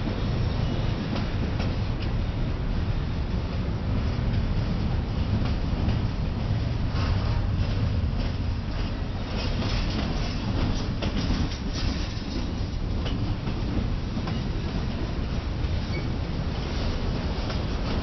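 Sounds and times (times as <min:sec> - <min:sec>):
train wheel clacks: 0:00.0 - 0:02.2, 0:03.4 - 0:18.0
train wheels rumbling on rail: 0:00.0 - 0:18.0.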